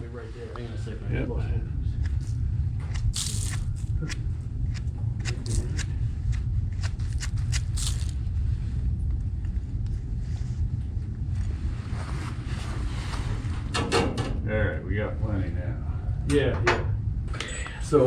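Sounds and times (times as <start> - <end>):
wind rumbling on microphone: 0.8 - 18.0.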